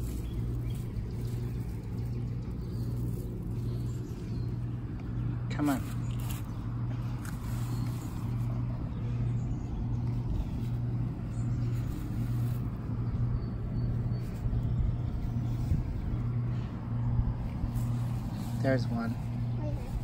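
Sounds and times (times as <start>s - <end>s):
low motor hum: 0.0s - 20.0s
low rumble: 0.0s - 20.0s.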